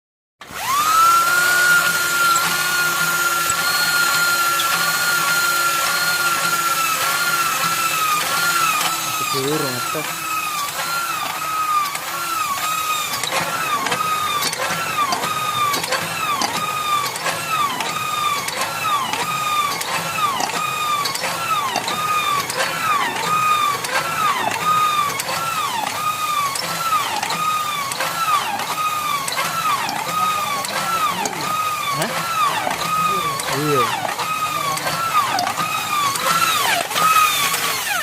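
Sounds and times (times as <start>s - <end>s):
hand pump squealing whine: 0.4s - 38.0s.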